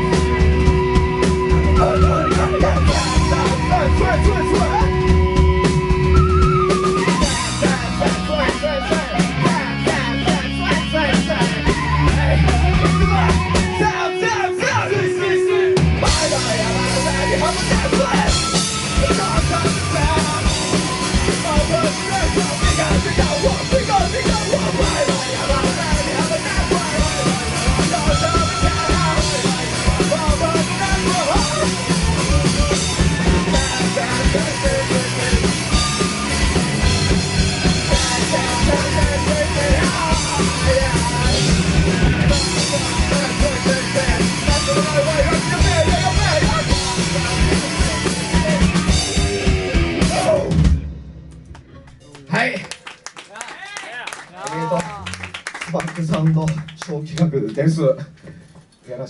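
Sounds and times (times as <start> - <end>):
rock band playing: 0.0 - 55.9.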